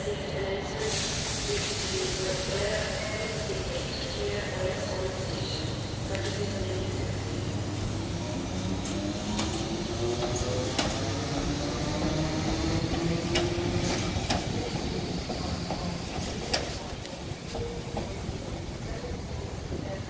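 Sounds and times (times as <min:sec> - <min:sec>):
low train rumble: 0:00.0 - 0:20.0.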